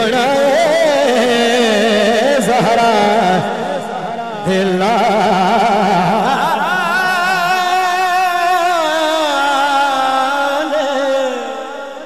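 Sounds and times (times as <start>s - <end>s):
man singing a long note: 0.0s - 12.0s.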